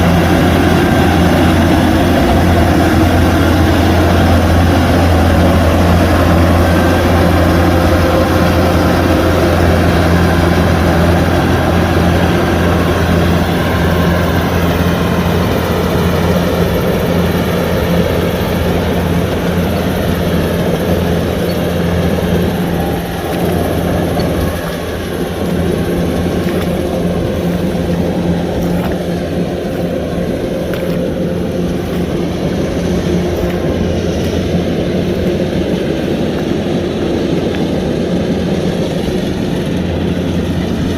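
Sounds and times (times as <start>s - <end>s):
combine harvester engine hum: 0.0s - 40.9s.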